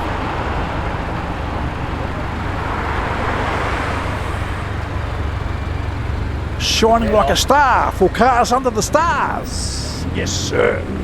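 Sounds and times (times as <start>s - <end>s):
car engines rumbling: 0.0s - 11.0s
tyre and road noise: 0.0s - 11.0s.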